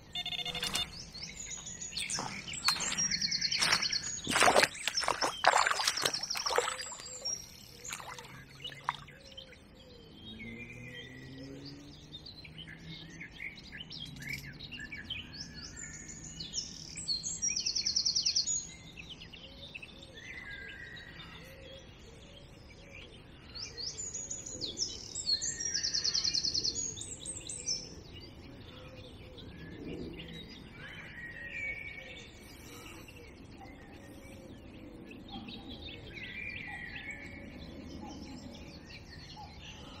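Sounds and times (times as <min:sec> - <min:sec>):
bird song with fast trill: 0:00.0 - 0:40.0
birds chirping softly: 0:00.0 - 0:40.0.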